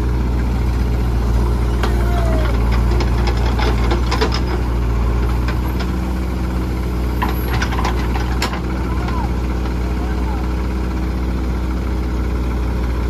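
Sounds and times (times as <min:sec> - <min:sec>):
backhoe diesel engine: 0:00.0 - 0:13.0
tractors idling: 0:00.0 - 0:13.0.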